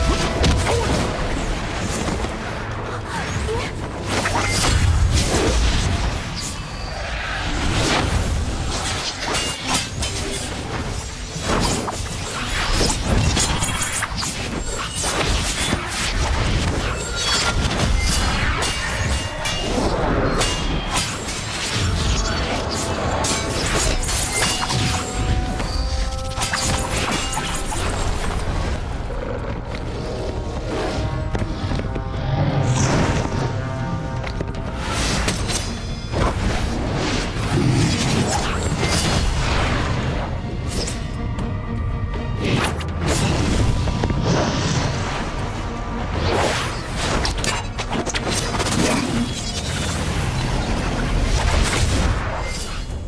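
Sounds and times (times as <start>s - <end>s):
dramatic film score music: 0.0s - 53.0s.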